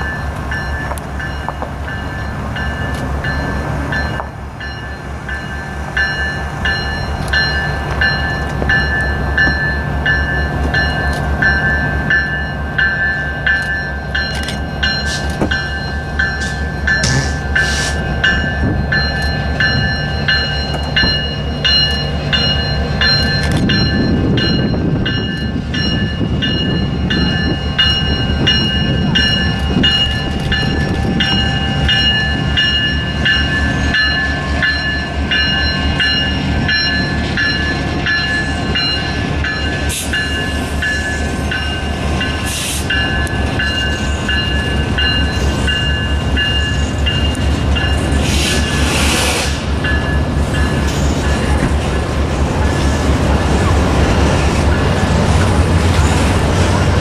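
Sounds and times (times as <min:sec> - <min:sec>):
locomotive bell ringing: 0:00.0 - 0:48.3, 0:49.8 - 0:57.0
diesel locomotive engine running: 0:00.0 - 0:57.0
train wheels clacking: 0:00.0 - 0:57.0.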